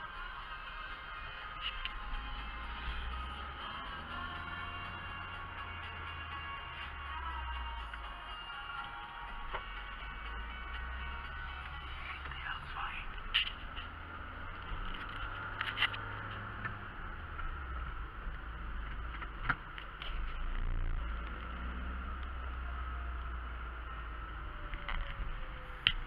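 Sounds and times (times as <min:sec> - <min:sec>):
car engine and tyre hum: 0:00.0 - 0:26.0.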